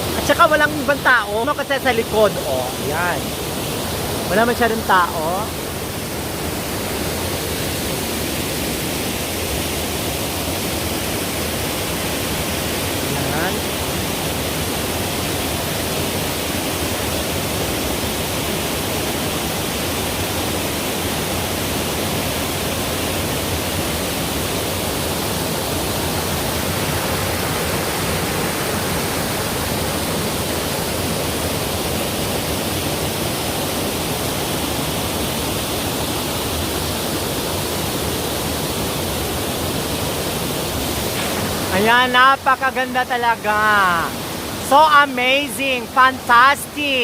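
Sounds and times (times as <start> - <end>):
waterfall crashing: 0.0 - 47.0.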